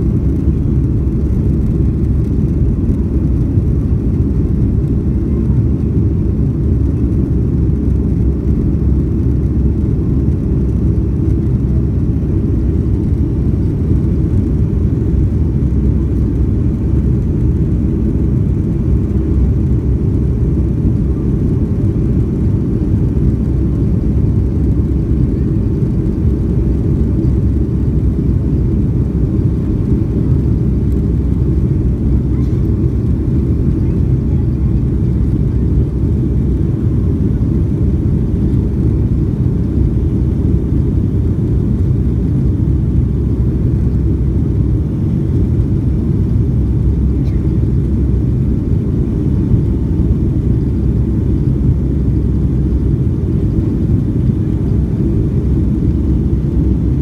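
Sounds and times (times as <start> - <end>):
airliner cabin jet engine rumble: 0.0 - 57.0.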